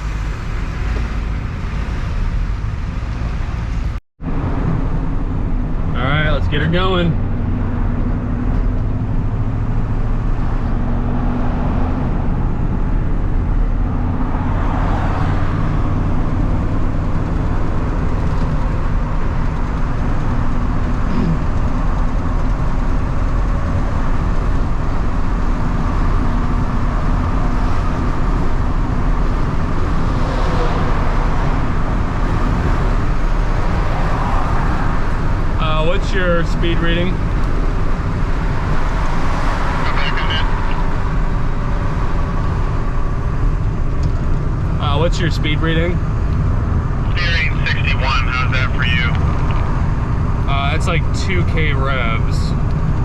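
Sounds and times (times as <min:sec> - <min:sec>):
road noise: 0:00.0 - 0:53.0
vehicle engine drone: 0:00.0 - 0:53.0.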